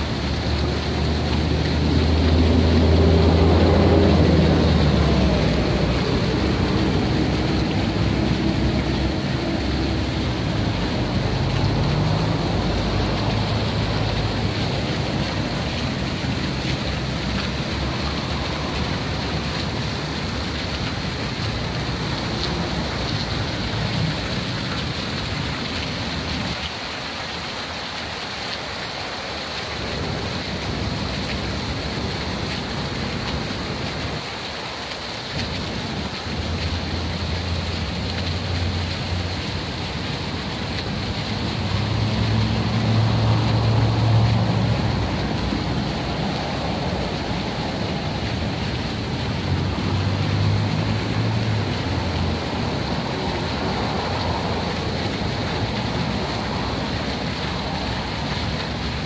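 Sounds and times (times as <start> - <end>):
fountain water splashing: 0.0 - 59.0.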